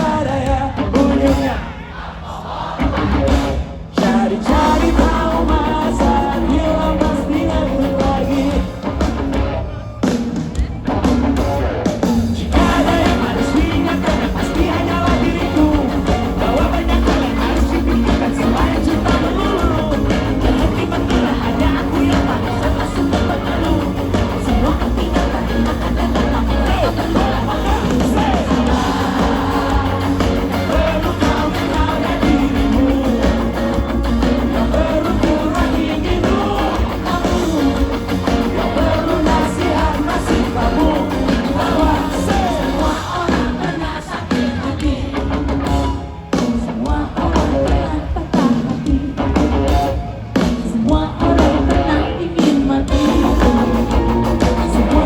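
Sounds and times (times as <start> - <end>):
live band playing with singer: 0.0 - 55.0.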